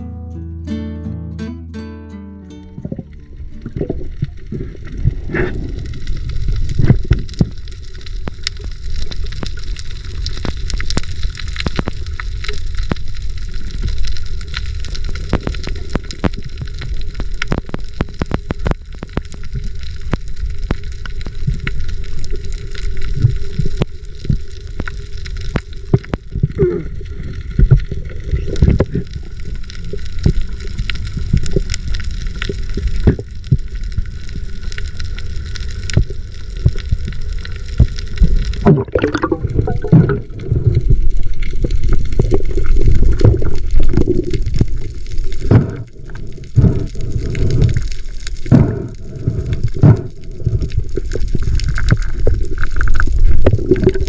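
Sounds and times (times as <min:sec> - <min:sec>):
low underwater rumble: 0:02.6 - 0:54.0
underwater clicks and crackles: 0:02.8 - 0:54.0.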